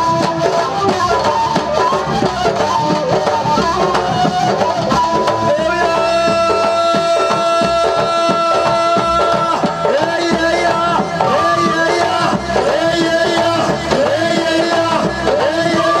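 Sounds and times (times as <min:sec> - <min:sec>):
folk band melody: 0:00.0 - 0:16.0
hand drums beating: 0:00.0 - 0:16.0.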